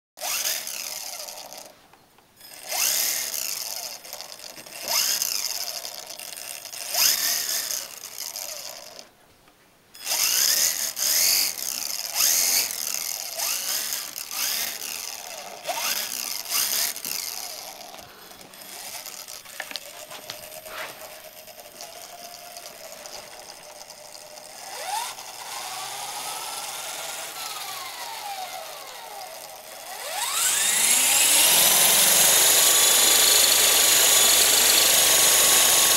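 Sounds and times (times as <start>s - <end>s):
electric motors whining: 0.2s - 1.8s, 2.4s - 9.1s, 10.0s - 35.9s.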